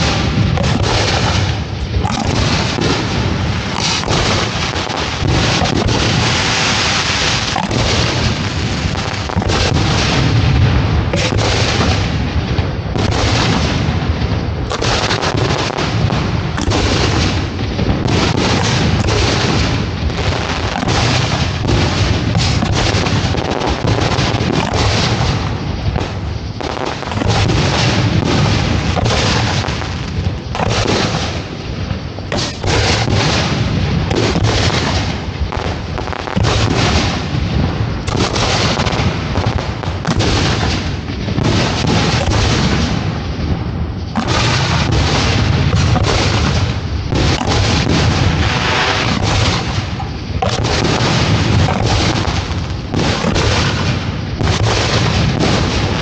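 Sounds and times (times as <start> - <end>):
fireworks booming: 0.0 - 56.0.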